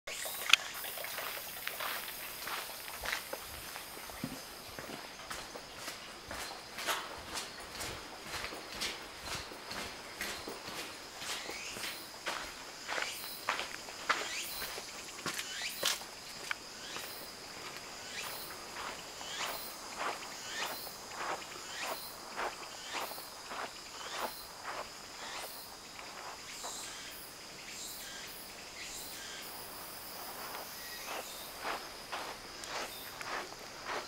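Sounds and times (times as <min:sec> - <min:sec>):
footsteps on paved path: 0:00.1 - 0:27.6, 0:29.4 - 0:34.0.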